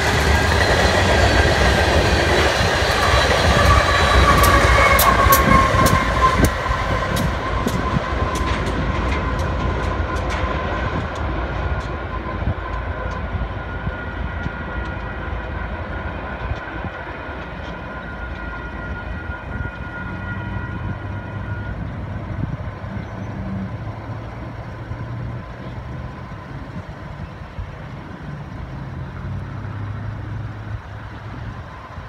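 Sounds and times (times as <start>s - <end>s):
freight train rumbling: 0.0s - 32.0s
road vehicle engines: 0.0s - 32.0s.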